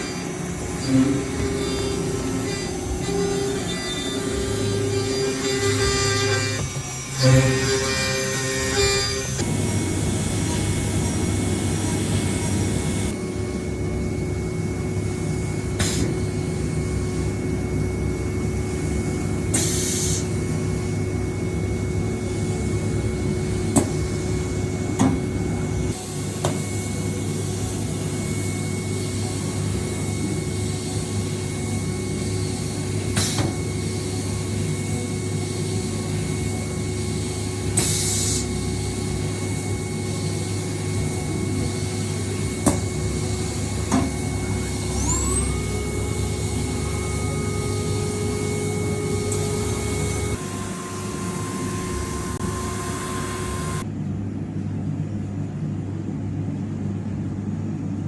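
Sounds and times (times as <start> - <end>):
milling machine spindle humming: 0.0 - 53.9.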